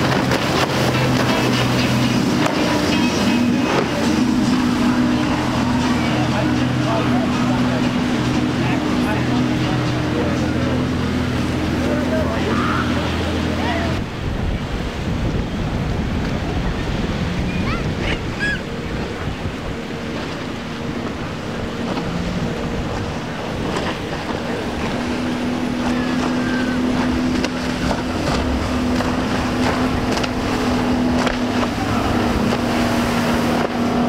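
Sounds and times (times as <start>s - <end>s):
outboard engine drone: 0.0s - 34.0s
rush of surf and spray: 0.0s - 34.0s
wind buffeting microphone: 0.0s - 34.0s.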